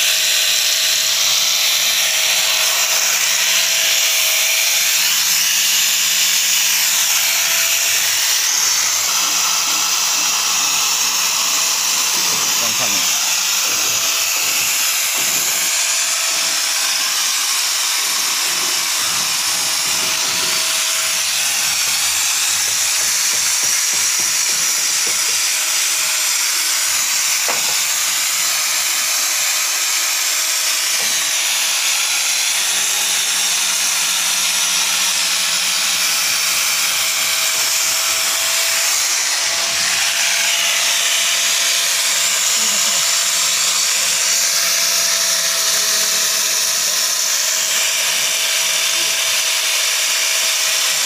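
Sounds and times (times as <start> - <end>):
angle grinder wire brushing steel: 0.0 - 34.0, 35.4 - 48.2.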